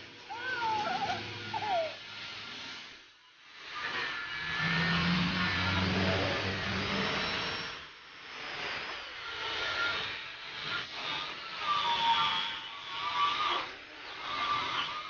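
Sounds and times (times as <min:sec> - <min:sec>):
angle grinder polishing steel: 0:00.0 - 0:15.0.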